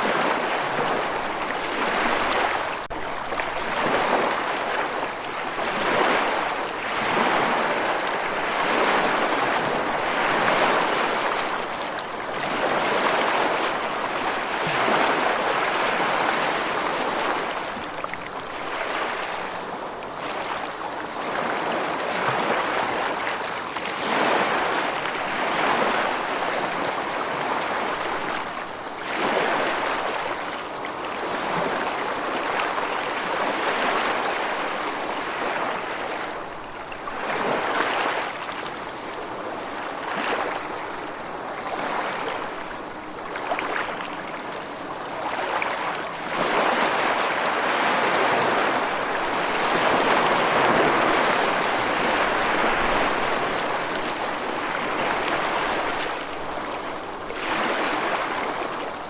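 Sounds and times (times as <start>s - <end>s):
water rushing: 0.0s - 19.9s, 31.2s - 59.0s.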